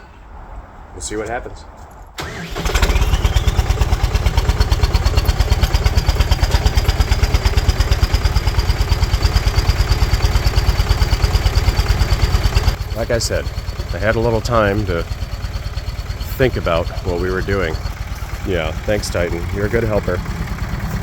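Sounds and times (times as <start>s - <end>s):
tractor engine starting and running: 2.0s - 21.0s.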